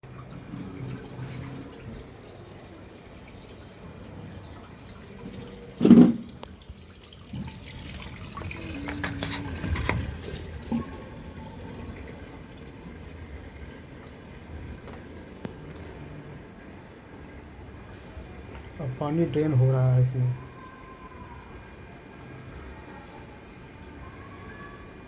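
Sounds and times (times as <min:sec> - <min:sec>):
water splashing in washing machine: 0:00.0 - 0:25.0.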